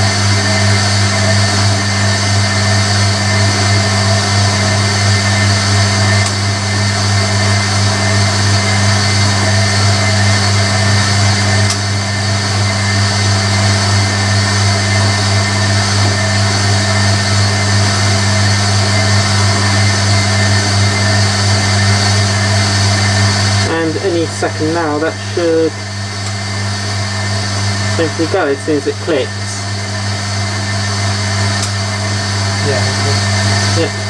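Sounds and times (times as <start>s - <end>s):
washing machine drain pump humming: 0.0s - 34.0s.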